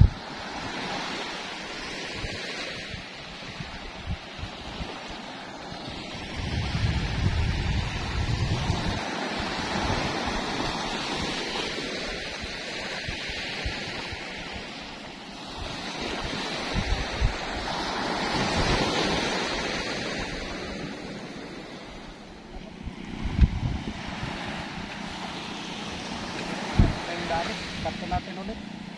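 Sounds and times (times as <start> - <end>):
small waves breaking on beach: 0.0 - 28.9
wind buffeting microphone: 0.0 - 28.9.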